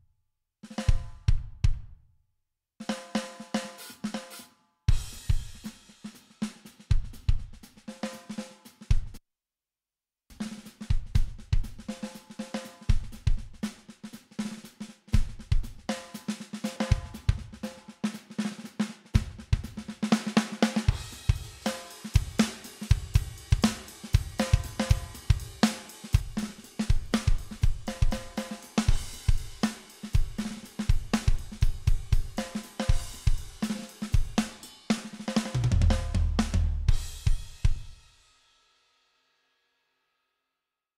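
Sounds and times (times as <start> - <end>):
saturated drum-kit groove: 0.7 - 2.0, 2.8 - 9.2, 10.3 - 38.6.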